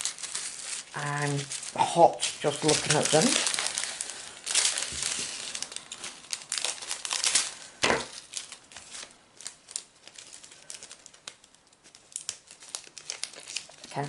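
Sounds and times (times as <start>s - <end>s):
plastic packets crinkling: 0.0s - 14.0s.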